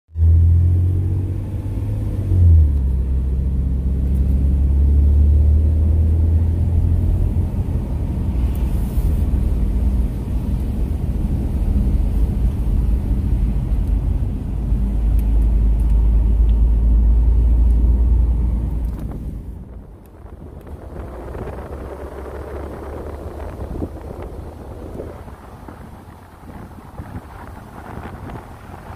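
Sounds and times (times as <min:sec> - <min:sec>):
car engine and road rumble: 0:00.1 - 0:28.9.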